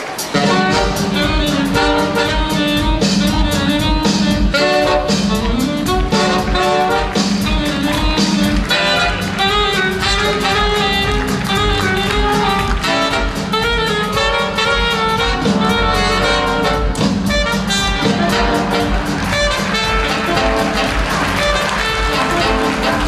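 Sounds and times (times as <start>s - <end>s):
jazz music with brass: 0.0s - 23.0s.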